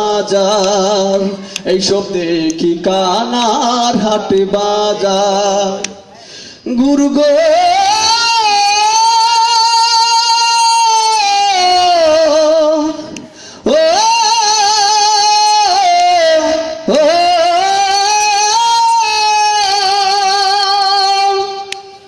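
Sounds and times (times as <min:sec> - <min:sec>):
man singing through loudspeaker: 0:00.0 - 0:22.0.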